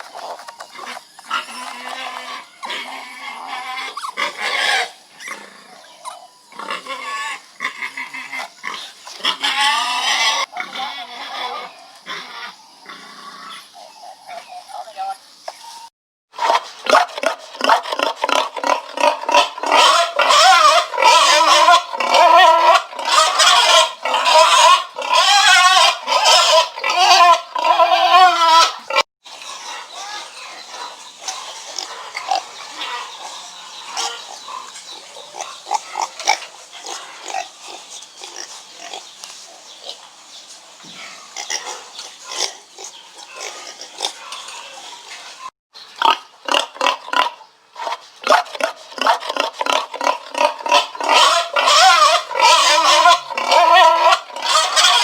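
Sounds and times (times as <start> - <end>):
pigs squealing and grunting: 0.0 - 39.1, 40.8 - 55.0.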